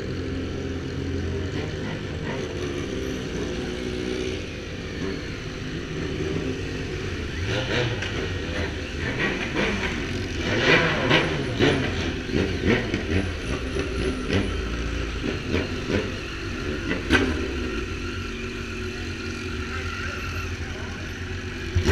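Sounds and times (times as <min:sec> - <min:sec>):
motorcycle engines idling and revving: 0:00.0 - 0:21.9.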